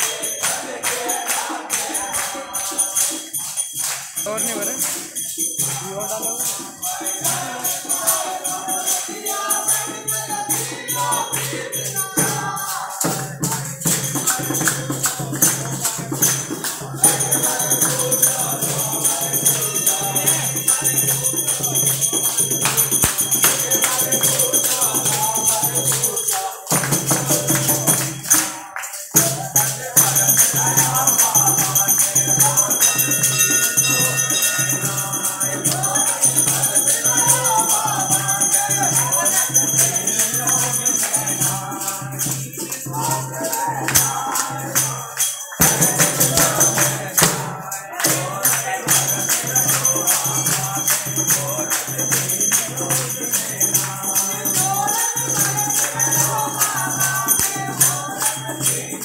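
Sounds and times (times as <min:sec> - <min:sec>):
crowd singing devotional song: 0:00.0 - 0:59.0
jingling hand percussion: 0:00.0 - 0:59.0
rhythmic clapping: 0:00.0 - 0:59.0.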